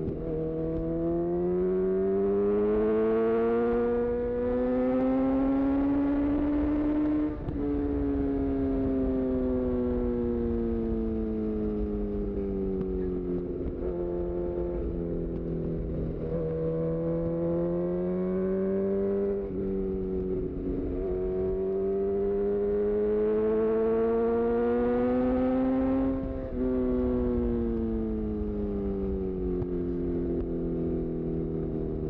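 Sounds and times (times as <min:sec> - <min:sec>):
motorcycle engine accelerating: 0:00.0 - 0:32.0
wind and road noise: 0:00.0 - 0:32.0.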